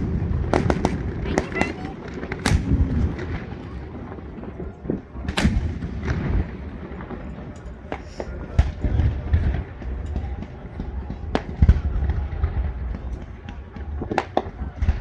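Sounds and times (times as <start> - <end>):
continuous low rumble: 0.0 - 15.0
fireworks booming: 0.0 - 15.0.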